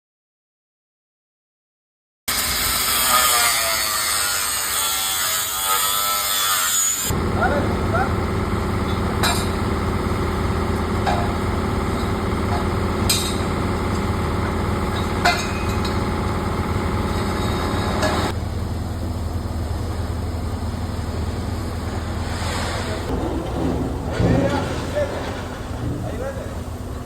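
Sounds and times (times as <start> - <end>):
machine droning: 4.4 - 27.0.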